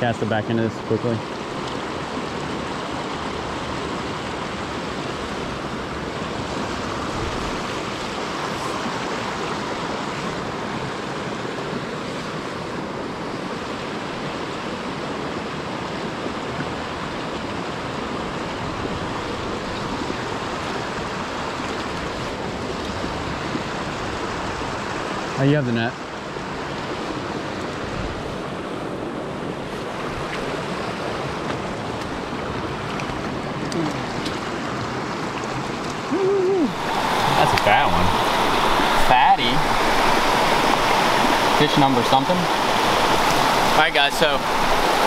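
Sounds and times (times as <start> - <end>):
creek water rushing over rocks: 0.0 - 45.0.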